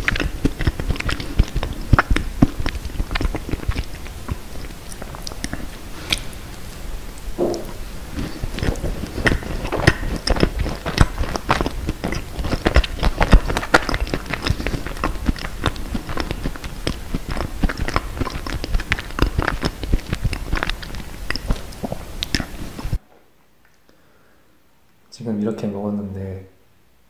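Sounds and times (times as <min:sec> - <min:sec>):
chewing crunchy food: 0:00.0 - 0:23.0.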